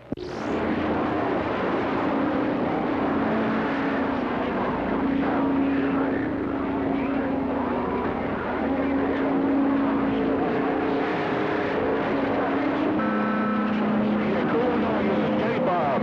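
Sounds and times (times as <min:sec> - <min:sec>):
loud radio static: 0:00.0 - 0:16.0
low steady tone: 0:00.0 - 0:16.0.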